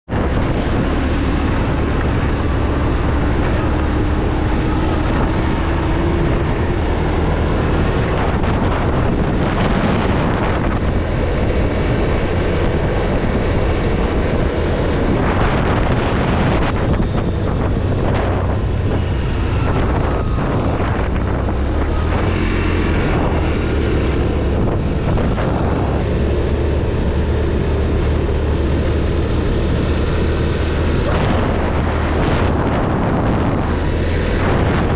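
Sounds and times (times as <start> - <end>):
atv engine running: 0.1 - 34.9
wind buffeting microphone: 0.1 - 34.9.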